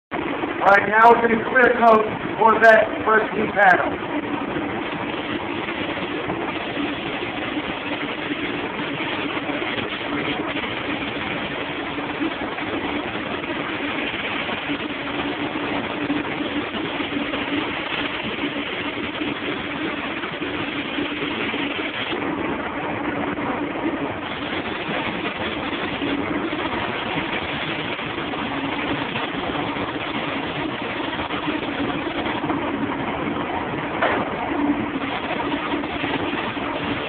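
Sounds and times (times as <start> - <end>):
low hum: 0.1 - 37.0.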